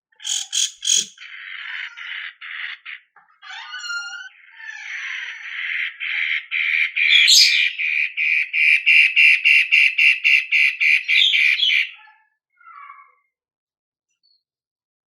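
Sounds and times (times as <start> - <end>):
bird singing repeated notes: 0.1 - 13.2.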